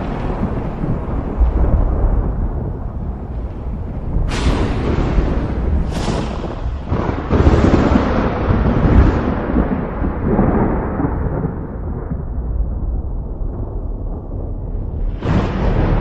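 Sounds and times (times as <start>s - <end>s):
thunder crack and rolling rumble: 0.0s - 16.0s.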